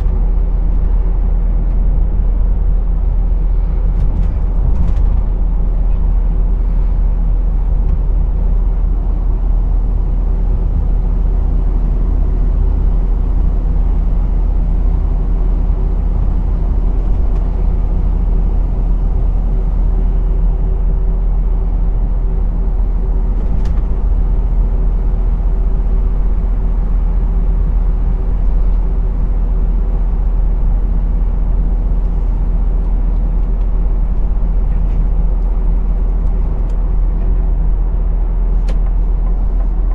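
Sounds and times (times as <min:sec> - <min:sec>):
lorry diesel engine driving: 0:00.0 - 0:39.9
road noise: 0:00.0 - 0:39.9.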